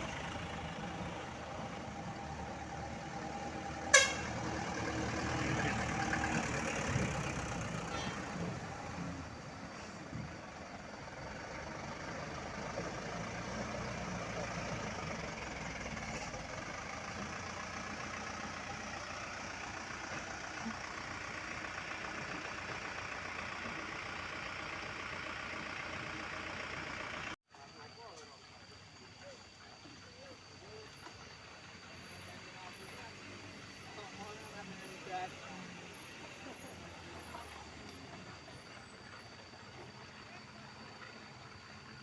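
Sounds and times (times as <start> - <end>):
diesel truck engine running: 0.0 - 27.4, 28.6 - 42.0.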